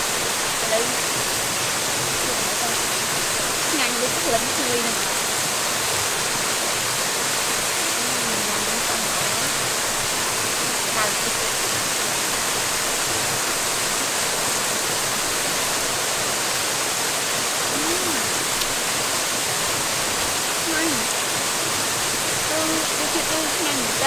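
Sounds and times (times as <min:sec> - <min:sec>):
waterfall rushing into pool: 0:00.0 - 0:24.0.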